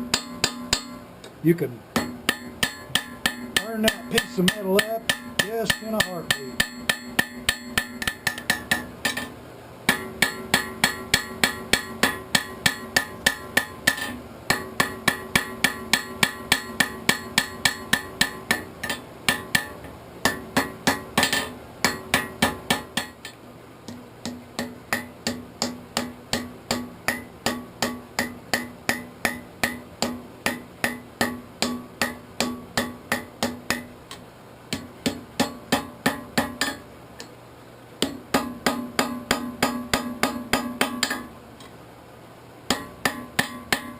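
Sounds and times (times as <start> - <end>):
hammer striking steel on anvil: 0.0 - 1.1, 2.0 - 37.3, 38.0 - 41.4, 42.7 - 43.9.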